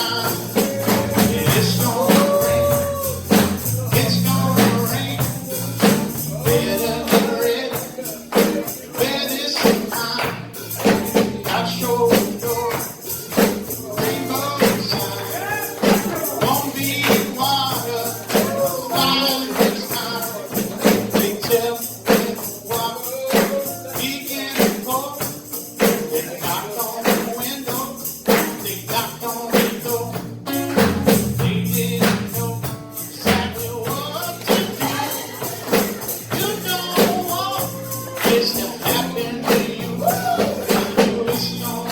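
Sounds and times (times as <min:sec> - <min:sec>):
person singing: 0:00.0 - 0:29.9, 0:33.2 - 0:41.9
tambourine beat: 0:00.0 - 0:41.9.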